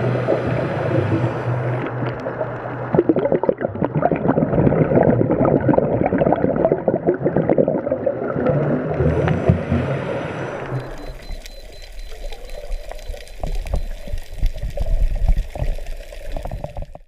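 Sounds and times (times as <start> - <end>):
regulator bubbles gurgling underwater: 0.0 - 17.0.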